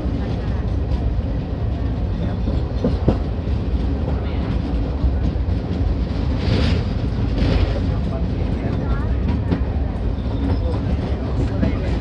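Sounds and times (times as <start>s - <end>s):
train rumble on bridge: 0.0s - 12.0s.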